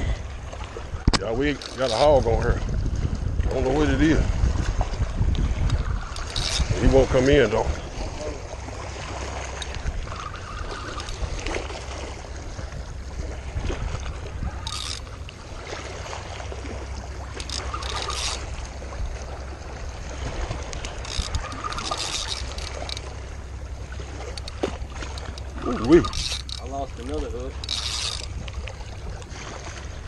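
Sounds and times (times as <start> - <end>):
river water at the bank: 0.0 - 30.0
wind: 0.0 - 30.0.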